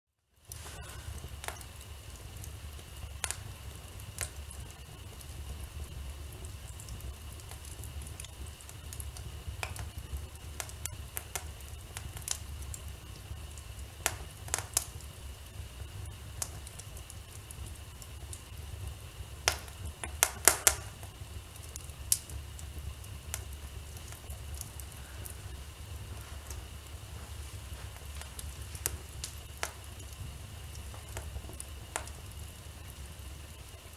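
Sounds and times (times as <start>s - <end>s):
wood fire crackling and popping: 0.3s - 33.9s.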